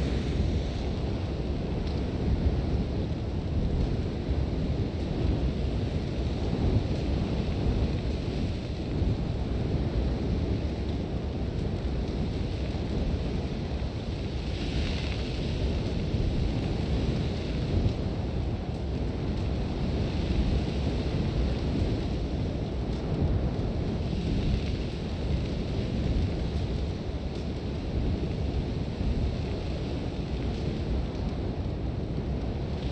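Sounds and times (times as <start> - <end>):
strong wind rumbling: 0.0 - 32.9.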